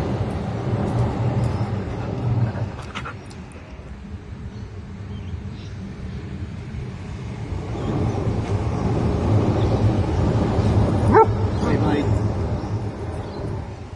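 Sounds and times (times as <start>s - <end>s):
electric train rumble: 0.0s - 13.9s.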